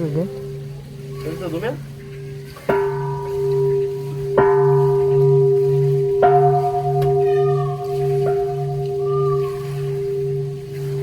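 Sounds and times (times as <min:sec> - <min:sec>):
large bell ringing: 0:00.0 - 0:11.0.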